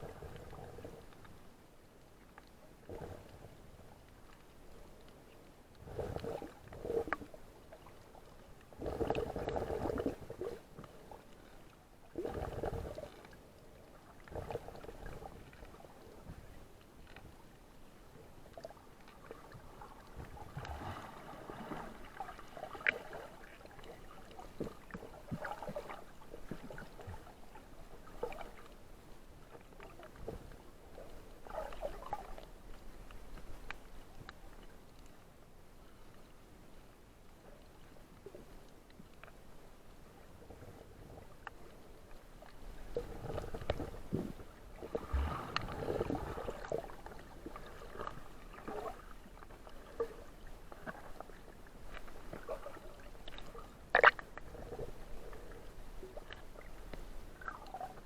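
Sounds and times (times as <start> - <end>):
water sloshing and gurgling: 0.0 - 35.2, 37.6 - 58.0.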